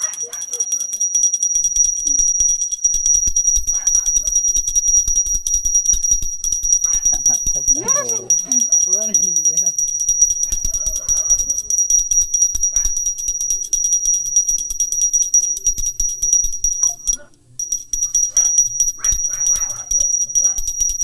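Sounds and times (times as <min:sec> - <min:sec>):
bell rung rapidly: 0:00.0 - 0:21.0.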